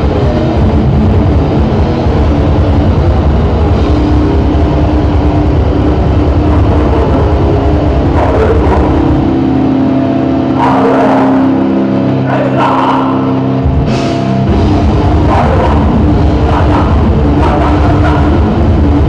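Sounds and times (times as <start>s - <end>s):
heavy metal band playing: 0.0s - 19.0s
vocals: 0.0s - 19.0s.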